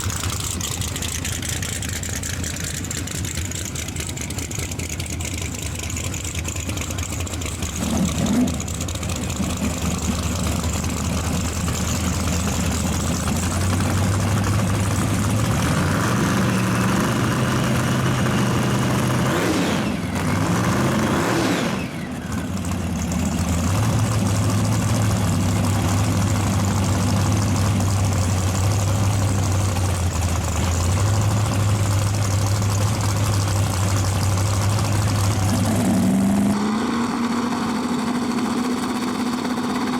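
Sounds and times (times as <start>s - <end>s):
racing car engines idling: 0.0s - 39.9s.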